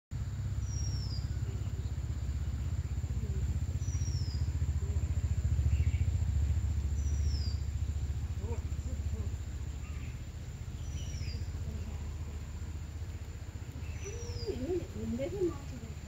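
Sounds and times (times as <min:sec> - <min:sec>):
low rumble: 0:00.1 - 0:16.0.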